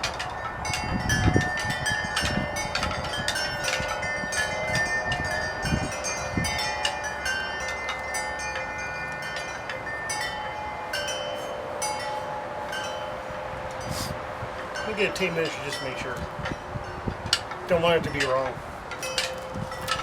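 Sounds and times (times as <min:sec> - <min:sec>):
wind chimes ringing: 0:00.0 - 0:20.0.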